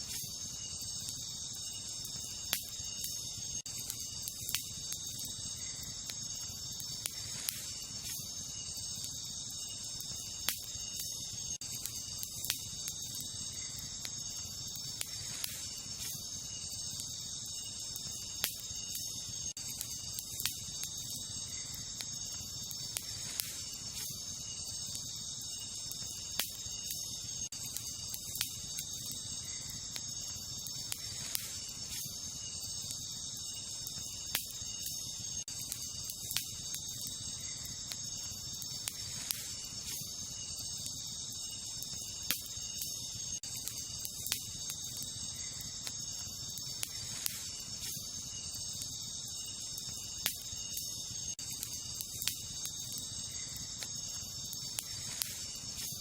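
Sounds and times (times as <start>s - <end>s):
crickets chirping: 0.0s - 56.0s
wood fire crackling and popping: 0.0s - 56.0s.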